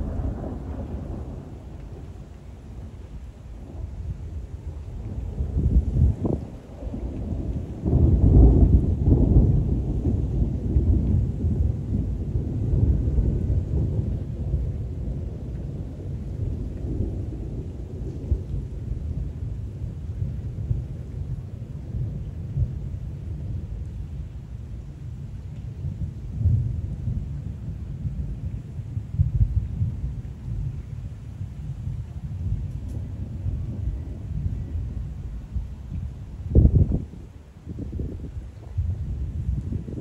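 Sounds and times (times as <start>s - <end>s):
steady rain: 0.0s - 40.0s
thunder rumbling: 0.0s - 40.0s.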